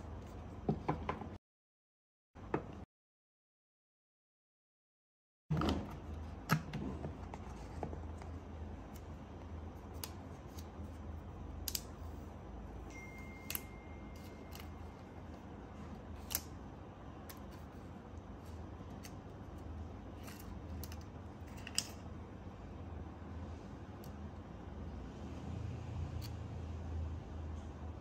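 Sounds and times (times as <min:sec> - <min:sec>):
steady low hum: 0:05.5 - 0:28.0.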